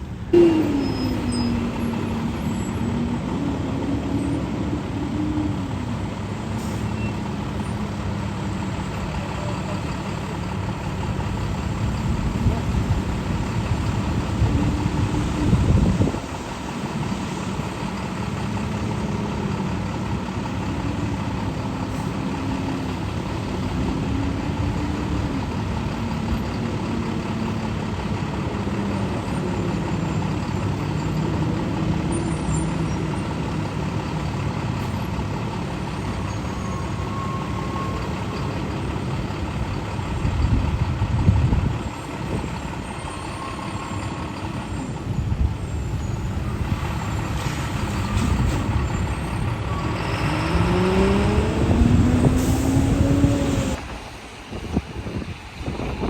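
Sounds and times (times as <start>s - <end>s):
heavy truck engines rumbling: 0.0s - 56.0s.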